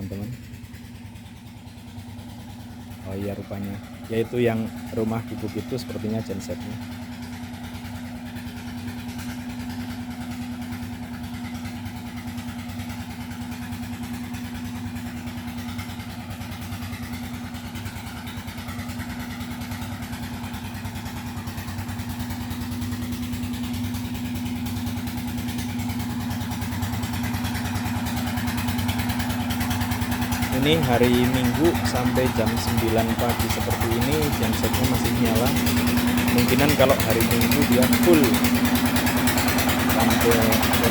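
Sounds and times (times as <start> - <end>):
generator engine running: 0.0 - 40.9.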